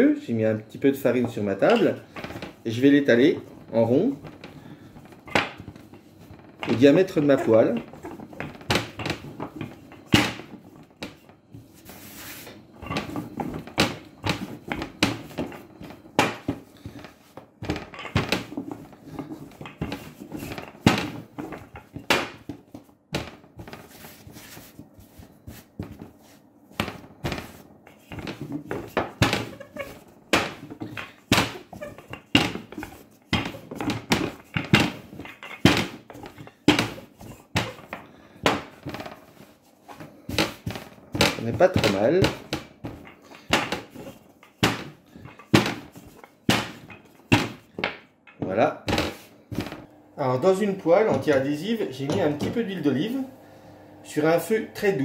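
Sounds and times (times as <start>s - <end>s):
rolling pin rolling dough: 0.3s - 55.0s.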